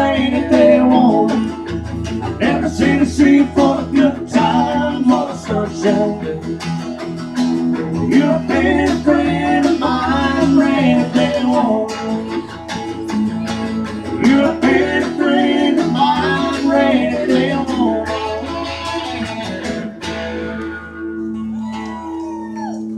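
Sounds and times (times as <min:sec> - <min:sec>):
guitars strumming and picking: 0:00.0 - 0:22.9.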